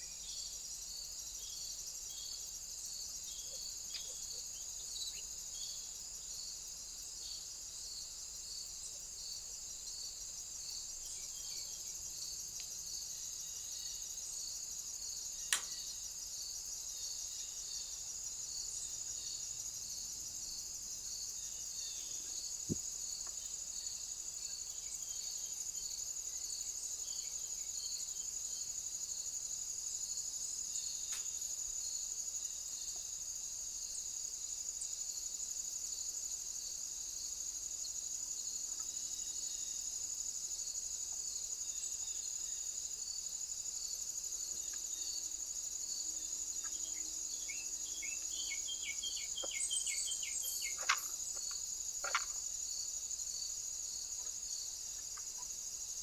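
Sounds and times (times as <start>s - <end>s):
insects chorus: 0.0s - 56.0s
slow pulsing insect call: 0.0s - 56.0s.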